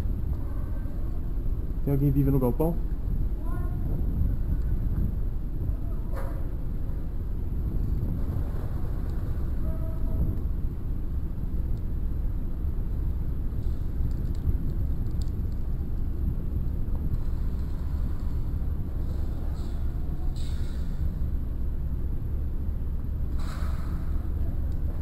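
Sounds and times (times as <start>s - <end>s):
low rumble on microphone: 0.0s - 25.0s.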